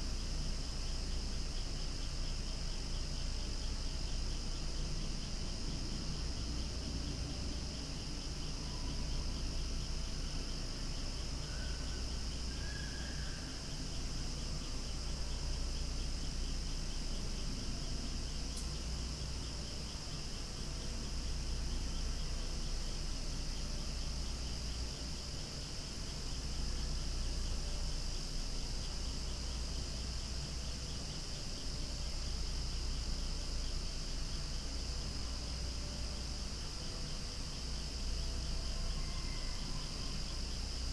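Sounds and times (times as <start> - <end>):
cicadas singing: 0.0 - 40.9.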